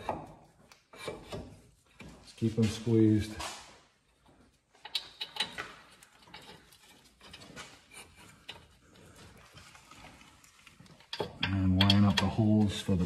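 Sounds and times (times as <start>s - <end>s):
light metal clicks and scrapes: 0.0s - 13.0s.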